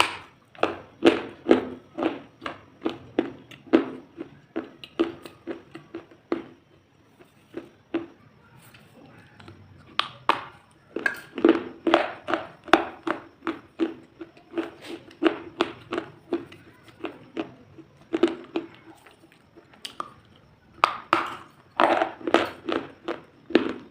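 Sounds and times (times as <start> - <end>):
crunchy food being chewed: 0.0 - 23.9.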